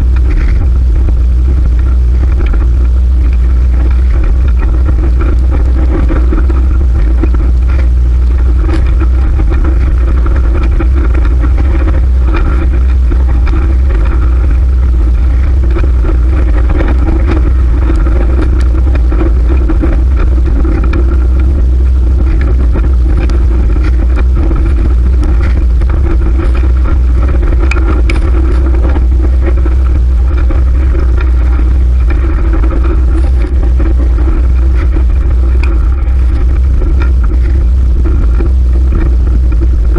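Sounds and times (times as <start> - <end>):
bicycle road noise: 0.0 - 39.9
wind on microphone: 0.0 - 39.9
small clicks and rattles: 0.1 - 39.9.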